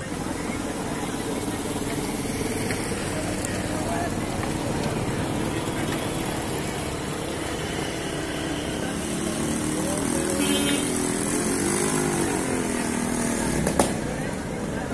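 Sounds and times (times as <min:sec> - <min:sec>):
motorcycle engines: 0:00.0 - 0:14.9
street traffic: 0:00.0 - 0:14.9.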